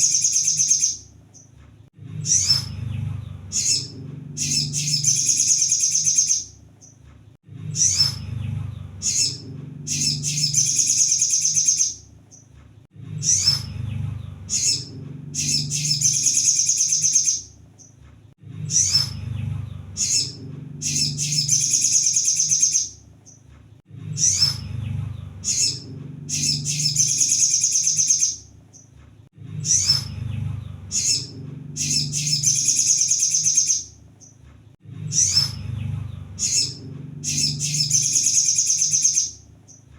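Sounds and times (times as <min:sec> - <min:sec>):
bird chattering trills: 0:00.0 - 0:01.0, 0:02.2 - 0:07.0, 0:07.7 - 0:12.5, 0:13.2 - 0:18.0, 0:18.7 - 0:23.4, 0:24.2 - 0:28.9, 0:29.6 - 0:34.3, 0:35.1 - 0:39.8.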